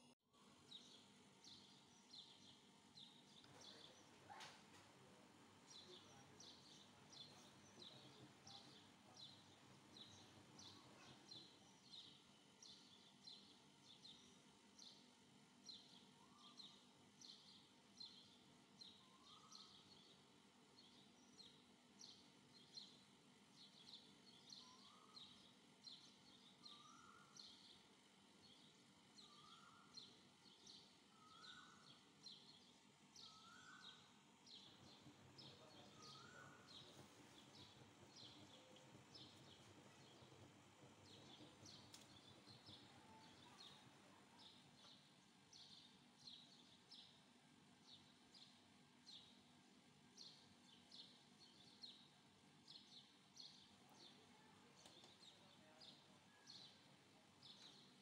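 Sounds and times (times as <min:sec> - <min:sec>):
small birds chirping: 0:00.6 - 0:58.0.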